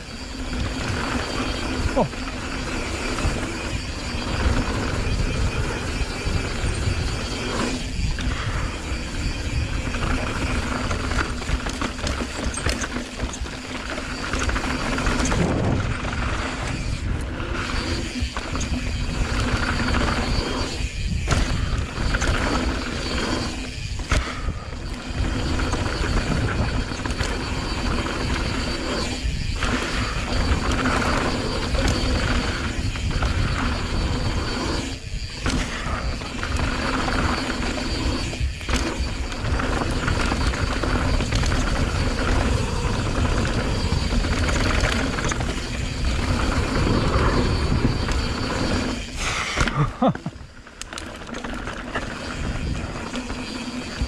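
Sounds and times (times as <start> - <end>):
wind rushing over microphone: 0.0 - 12.8, 13.7 - 50.8, 51.9 - 54.0
bike freewheel ratcheting: 0.0 - 54.0
tyres rumbling on dirt: 0.0 - 54.0.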